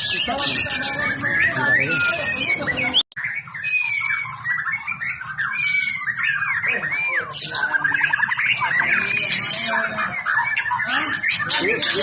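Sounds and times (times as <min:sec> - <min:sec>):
bird singing whistles and trills: 0:00.0 - 0:12.0.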